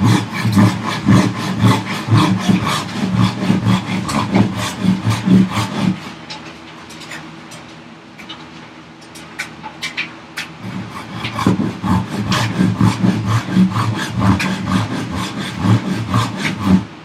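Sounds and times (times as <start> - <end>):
hand saw cutting wood: 0.0 - 7.3, 9.8 - 17.0.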